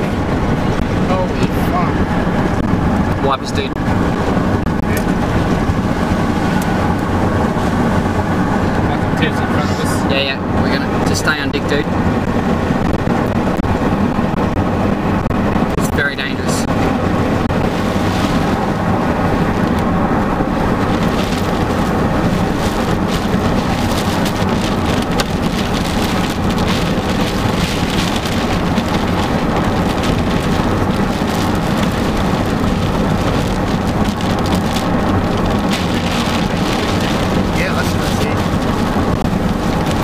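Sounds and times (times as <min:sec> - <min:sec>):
low road and engine noise: 0:00.0 - 0:40.0
rain pelting car windshield: 0:00.0 - 0:40.0.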